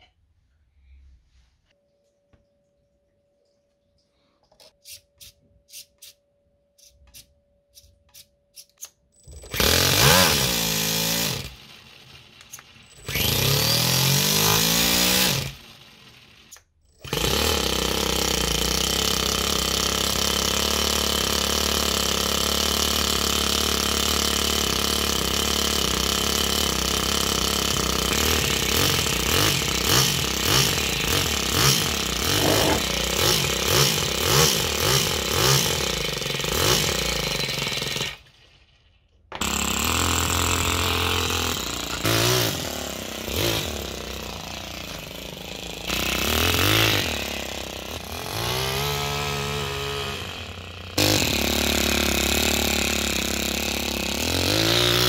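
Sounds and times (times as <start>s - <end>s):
model engine cranking and running: 8.1s - 55.0s.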